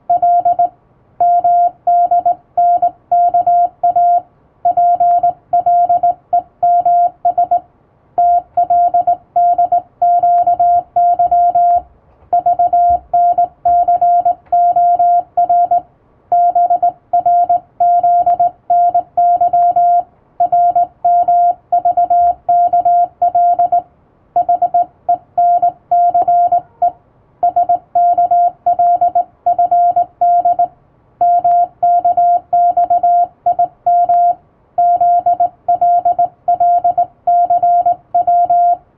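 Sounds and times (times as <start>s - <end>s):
morse code tone: 0.1s - 7.6s, 8.2s - 38.8s.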